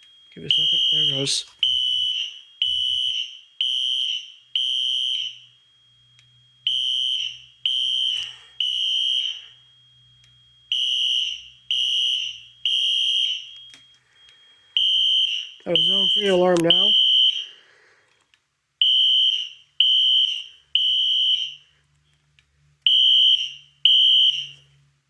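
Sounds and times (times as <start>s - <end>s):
fire alarm horns beeping: 0.0s - 17.6s, 18.8s - 21.8s, 22.8s - 24.9s.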